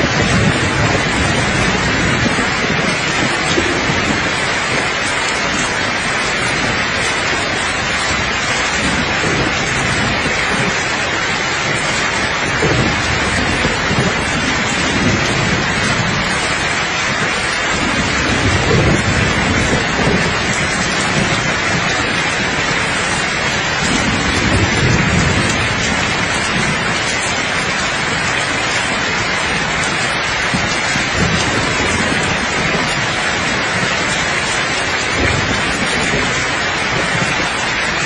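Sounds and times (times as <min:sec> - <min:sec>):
distant thunder rumbles: 0:00.0 - 0:38.0
steady rain hiss: 0:00.0 - 0:38.0.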